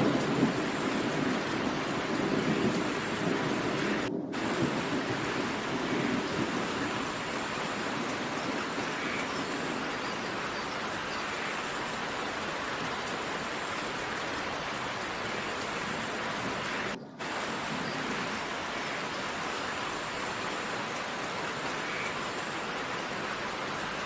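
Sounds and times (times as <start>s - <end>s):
low rumble of thunder: 0.0s - 10.6s, 12.5s - 21.7s
heavy rain hissing: 0.0s - 24.0s.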